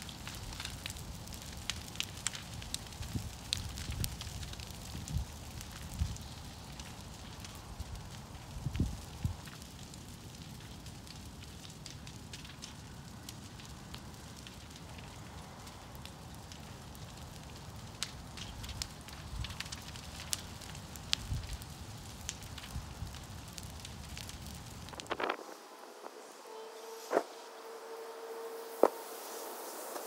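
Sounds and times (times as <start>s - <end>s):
fire crackling and popping: 0.0s - 30.0s
low fire rumble: 0.0s - 30.0s.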